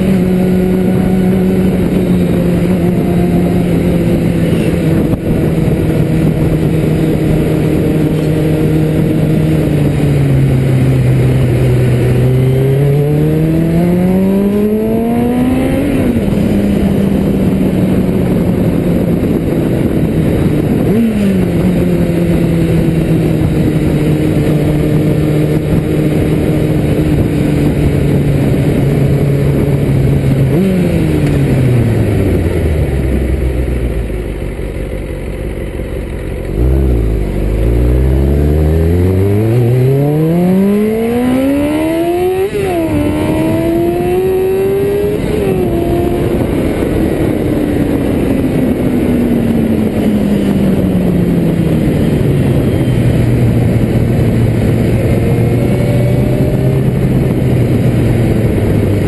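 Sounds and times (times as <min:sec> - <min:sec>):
wind rush: 0:00.0 - 0:34.5, 0:36.5 - 0:59.0
motorcycle engine: 0:00.0 - 0:59.0.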